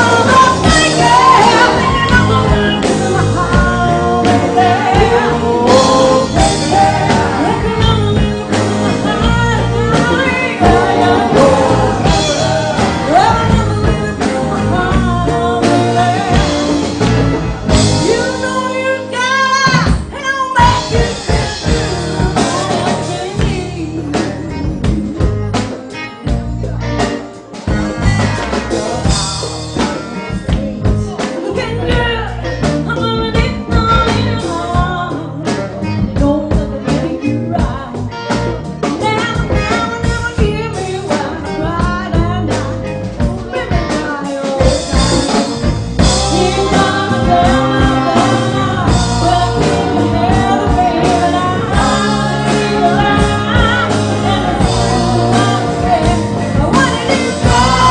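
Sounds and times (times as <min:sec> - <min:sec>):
woman singing: 0:00.0 - 0:17.1, 0:17.7 - 0:26.0, 0:27.8 - 0:57.9
drums: 0:00.0 - 0:57.9
live rock band playing: 0:00.0 - 0:57.9.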